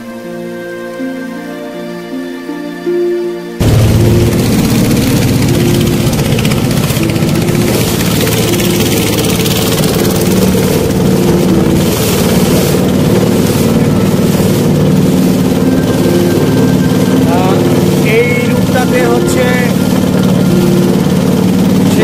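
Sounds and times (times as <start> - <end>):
boat engine running: 3.6 - 22.0
hull moving through water: 3.6 - 22.0.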